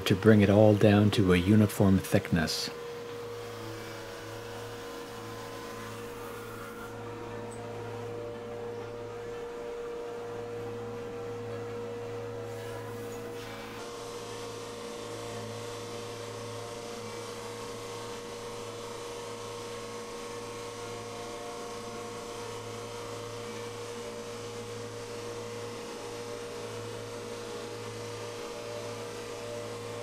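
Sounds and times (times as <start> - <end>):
drum sander humming: 0.0 - 30.0.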